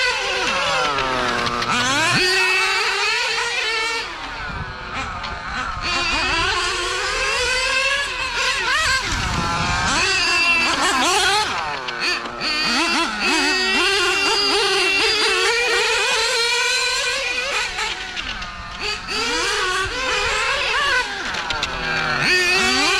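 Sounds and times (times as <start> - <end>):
nitro rc car engines screaming: 0.0 - 22.9.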